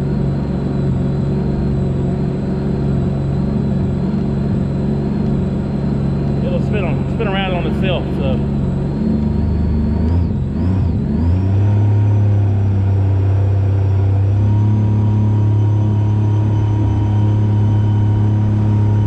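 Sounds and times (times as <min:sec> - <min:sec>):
jet boat engine droning: 0:00.0 - 0:19.0.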